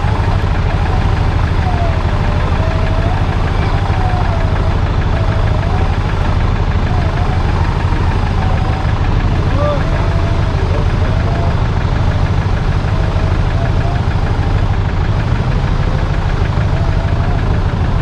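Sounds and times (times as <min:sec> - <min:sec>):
off-road vehicle engine droning: 0:00.0 - 0:18.0
thin wandering whine: 0:00.0 - 0:18.0.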